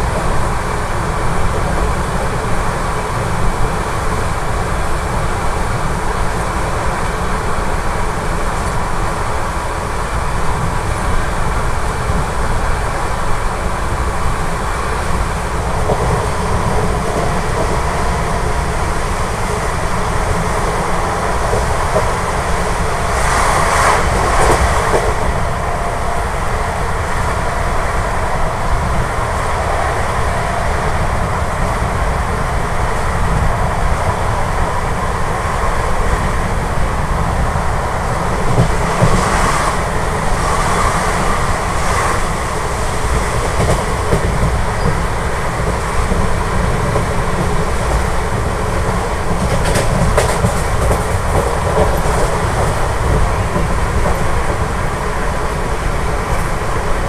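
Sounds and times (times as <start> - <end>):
rushing air: 0.0 - 57.0
train wheels rumbling on rail: 0.0 - 57.0.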